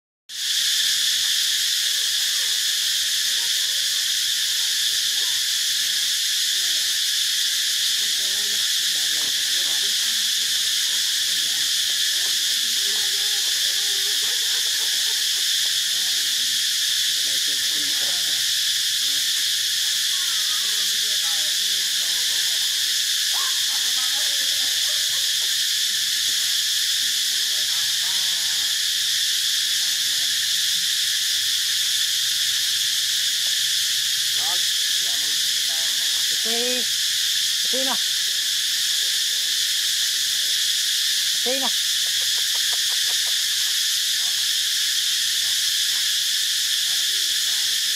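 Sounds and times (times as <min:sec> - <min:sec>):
insects droning: 0:00.3 - 0:47.9.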